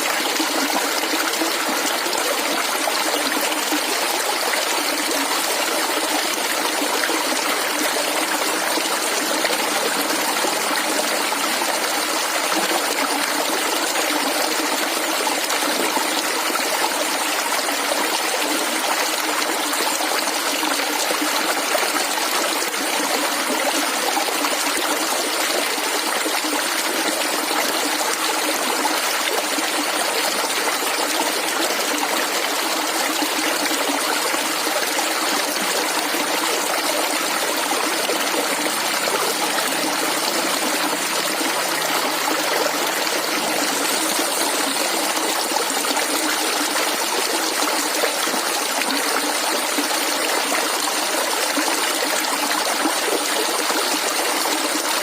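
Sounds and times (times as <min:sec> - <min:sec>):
stream gurgling over stones: 0:00.0 - 0:55.0.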